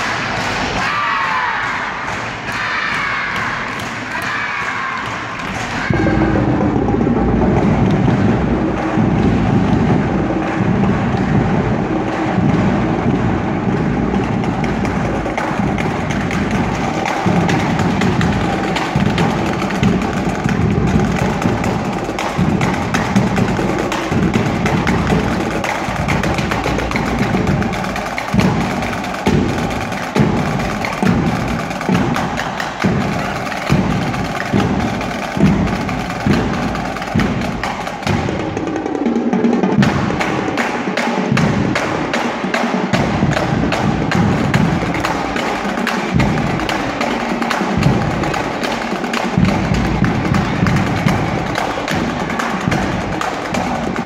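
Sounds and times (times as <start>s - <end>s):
snare drum rolls: 0.0s - 54.0s
bass drum beats: 5.8s - 38.7s, 42.9s - 48.8s, 49.4s - 54.0s.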